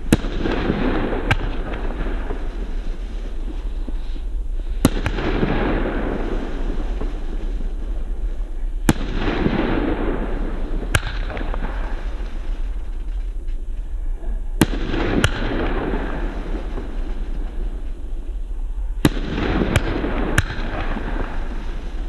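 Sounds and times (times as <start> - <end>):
firework bangs: 0.0 - 13.7, 14.5 - 22.0.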